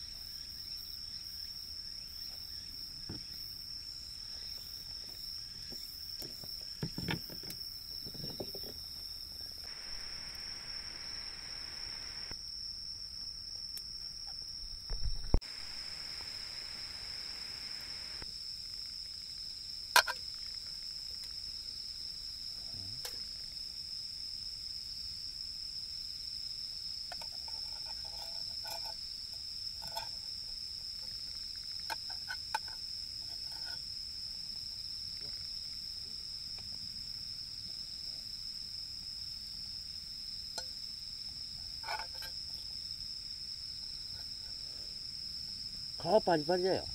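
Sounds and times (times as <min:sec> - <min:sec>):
night insects chorus: 0:00.0 - 0:46.9.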